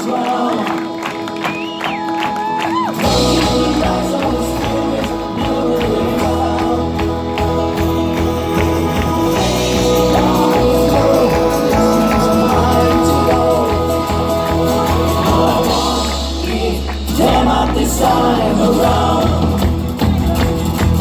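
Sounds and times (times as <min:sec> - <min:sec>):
person singing: 0:00.0 - 0:20.2
song with steady beat: 0:03.0 - 0:20.4.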